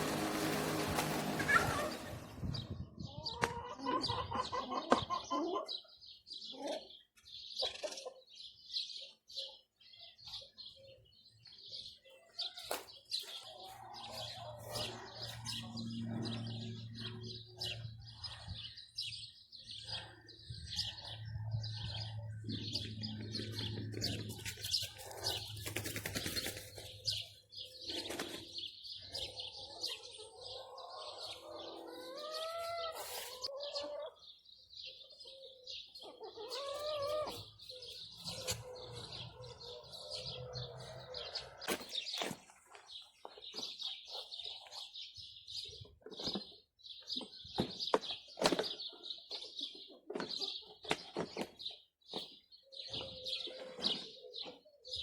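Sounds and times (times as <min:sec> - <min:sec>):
chickens clucking: 0:00.0 - 0:09.6, 0:12.0 - 0:18.7, 0:19.4 - 0:44.9, 0:48.0 - 0:55.0
small birds chirping: 0:00.0 - 0:55.0.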